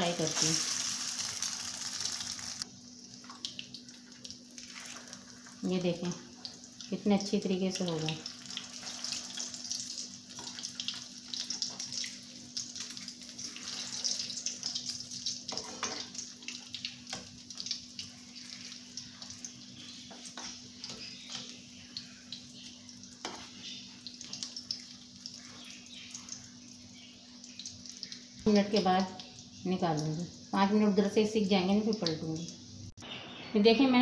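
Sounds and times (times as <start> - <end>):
food sizzling in hot oil: 0.0 - 31.2.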